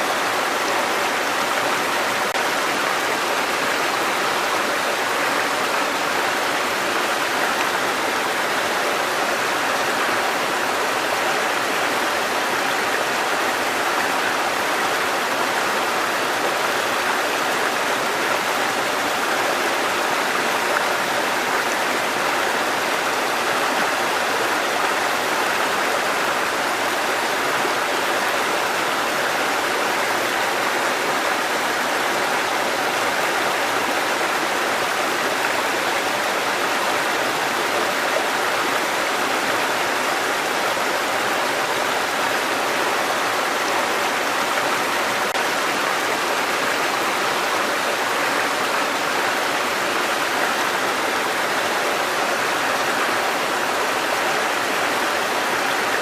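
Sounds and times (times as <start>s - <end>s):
stream water over rocks: 0.0s - 56.0s.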